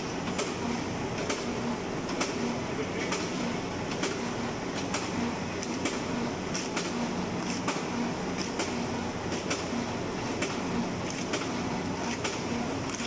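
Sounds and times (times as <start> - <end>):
sharp machine clacks: 1.2 - 13.0.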